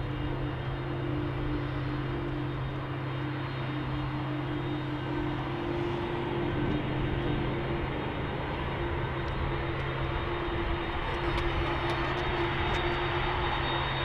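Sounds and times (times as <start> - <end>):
constant low tone: 0.0 - 14.0
jet engines at low thrust: 0.0 - 14.0.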